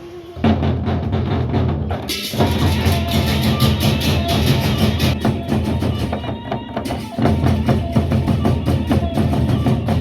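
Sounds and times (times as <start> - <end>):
barrel drums beating: 0.5 - 10.0.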